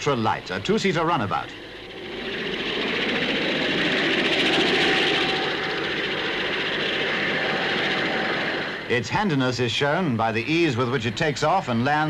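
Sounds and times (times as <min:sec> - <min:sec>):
faint steady whine: 0:00.0 - 0:12.0
helicopter rotor jet rushing: 0:00.0 - 0:12.0.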